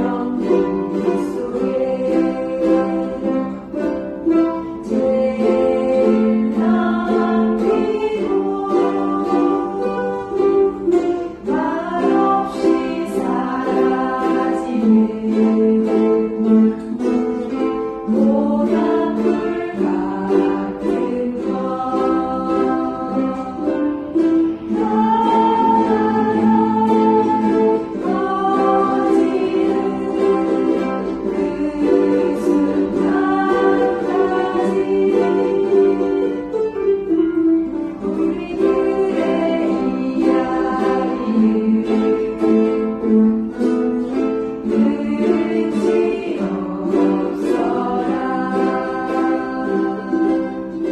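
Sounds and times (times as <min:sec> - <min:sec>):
person singing: 0:00.0 - 0:50.9
ukulele strumming: 0:00.0 - 0:50.9.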